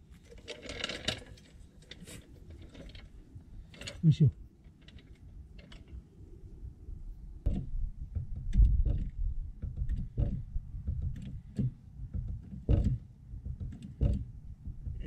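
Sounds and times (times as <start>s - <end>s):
low rumble: 1.6s - 15.0s.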